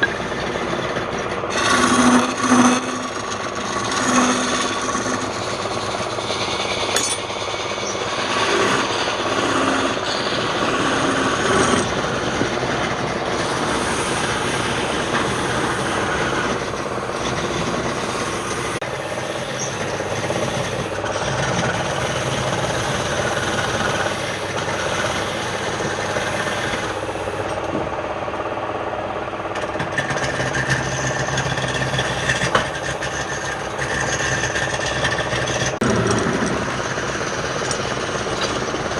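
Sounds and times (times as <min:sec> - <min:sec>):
tool rasping against spinning wood: 0:00.0 - 0:27.8, 0:29.5 - 0:38.9
wood lathe running: 0:00.0 - 0:38.9.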